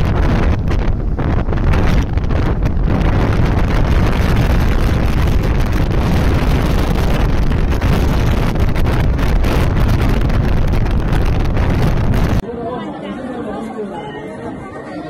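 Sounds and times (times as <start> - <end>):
motorcycle running: 0.0 - 12.4
road noise: 0.0 - 12.4
wind buffeting microphone: 0.0 - 12.4.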